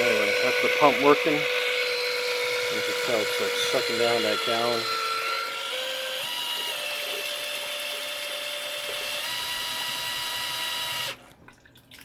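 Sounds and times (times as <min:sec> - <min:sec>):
electric drill whining: 0:00.0 - 0:11.2.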